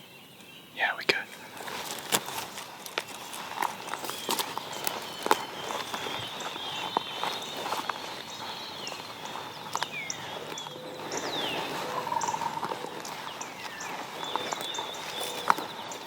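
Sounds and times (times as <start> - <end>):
birds chirping: 0.0 - 16.0
twigs cracking underfoot: 1.1 - 16.0.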